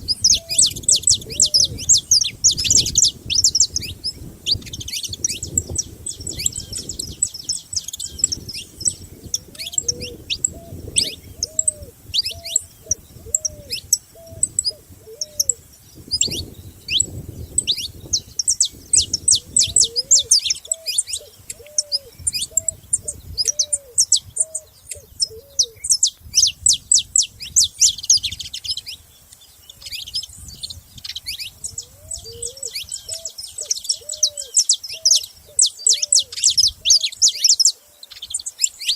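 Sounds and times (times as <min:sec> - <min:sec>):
low arched bird call: 0:00.0 - 0:26.0, 0:29.7 - 0:38.9
finches chirping: 0:00.0 - 0:38.9.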